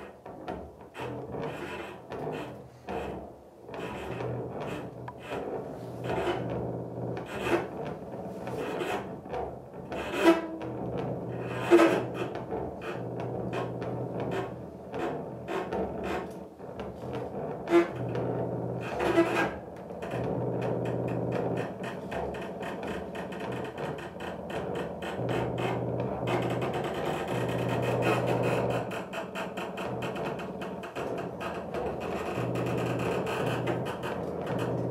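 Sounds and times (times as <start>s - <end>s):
cello scratchy bowing: 0.0s - 34.9s.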